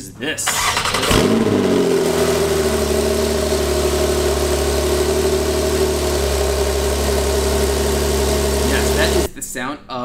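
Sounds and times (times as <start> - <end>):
car engine idling: 0.4 - 9.3.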